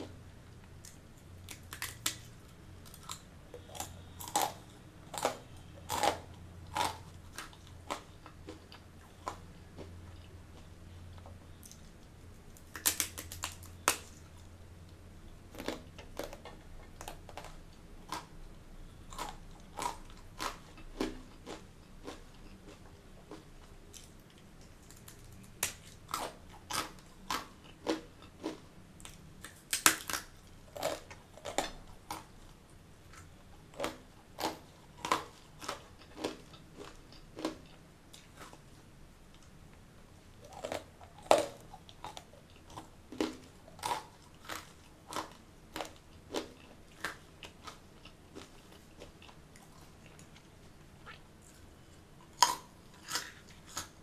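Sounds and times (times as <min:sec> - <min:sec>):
crunching and chewing snack: 0:00.0 - 0:14.5, 0:15.3 - 0:39.5, 0:40.4 - 0:54.0.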